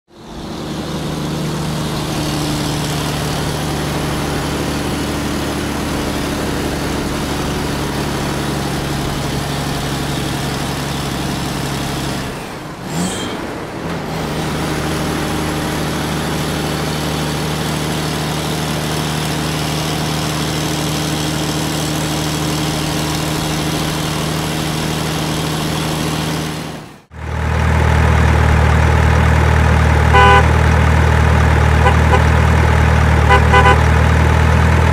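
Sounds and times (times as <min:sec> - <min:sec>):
deeper engine hum: 0:00.1 - 0:34.9
truck engine running: 0:00.1 - 0:34.9.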